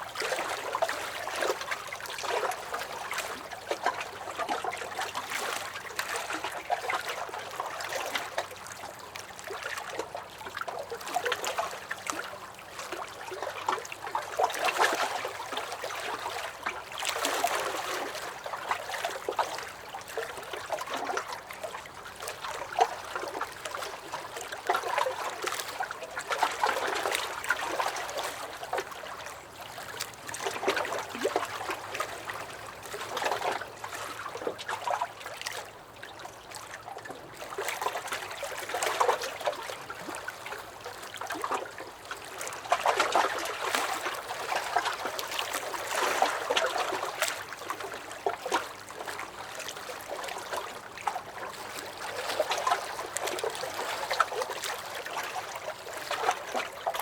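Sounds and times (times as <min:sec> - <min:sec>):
waves lapping against a dock: 0:00.0 - 0:57.0.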